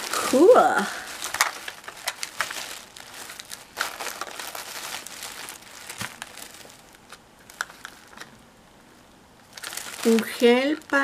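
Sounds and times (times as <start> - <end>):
tissue paper crinkling: 0.0 - 8.3, 9.4 - 11.0.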